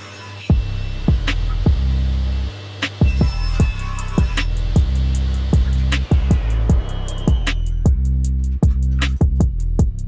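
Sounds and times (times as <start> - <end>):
electronic beat with deep kicks: 0.5 - 10.0
sustained low bass: 0.5 - 10.0.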